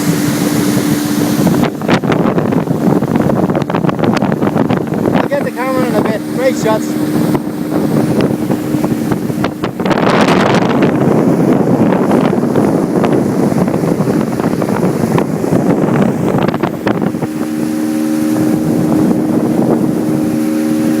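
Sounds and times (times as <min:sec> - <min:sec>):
boat engine hum: 0:00.0 - 0:21.0
wind and water rushing: 0:00.0 - 0:21.0.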